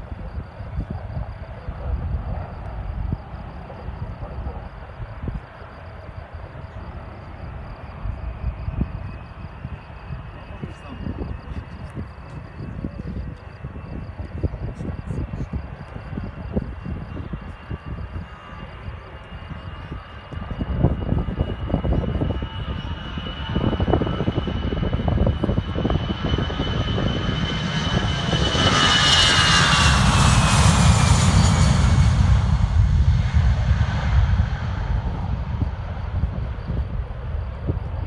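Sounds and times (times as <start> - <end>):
jet airliner passing: 0.0 - 38.0.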